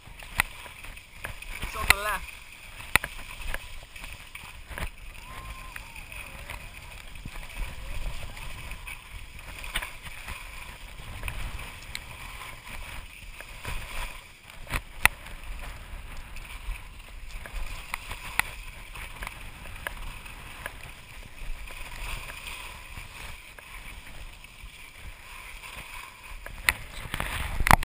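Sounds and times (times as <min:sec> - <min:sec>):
skis scraping over snow: 0:00.0 - 0:27.8
wind rumbling on microphone: 0:00.0 - 0:27.8.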